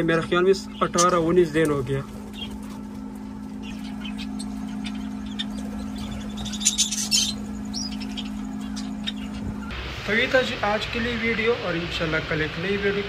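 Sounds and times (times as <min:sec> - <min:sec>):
small birds chirping: 0:00.0 - 0:11.5
steady low hum: 0:00.0 - 0:13.0.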